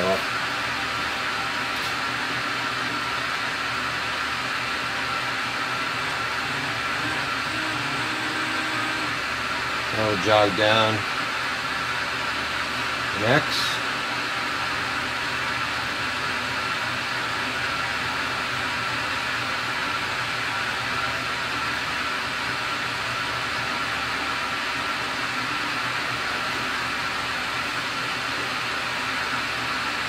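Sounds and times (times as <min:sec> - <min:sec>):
lathe humming and hissing: 0:00.0 - 0:30.0.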